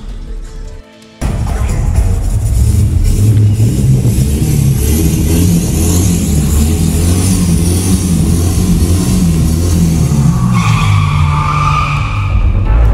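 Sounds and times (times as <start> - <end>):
car engine drone: 0.0 - 12.9.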